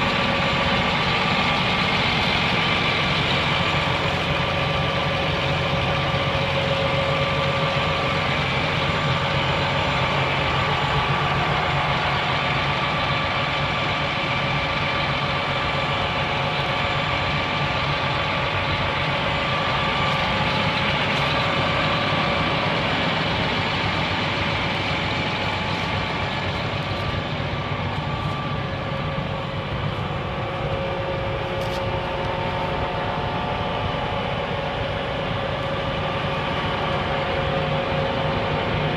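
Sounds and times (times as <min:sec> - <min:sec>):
constant engine whine: 0:00.0 - 0:38.9
tractor diesel engine idling: 0:00.0 - 0:38.9.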